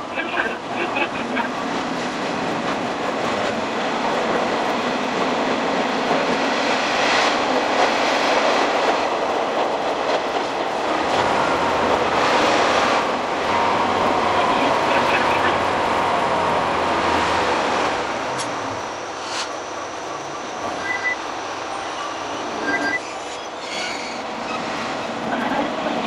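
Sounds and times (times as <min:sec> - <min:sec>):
reversed sped-up railcar rumble: 0:00.0 - 0:26.0.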